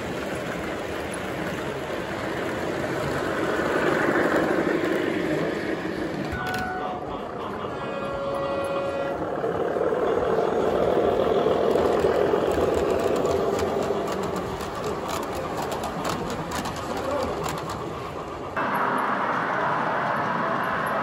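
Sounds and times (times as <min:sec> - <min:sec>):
model train rumbling past: 0:00.0 - 0:21.0.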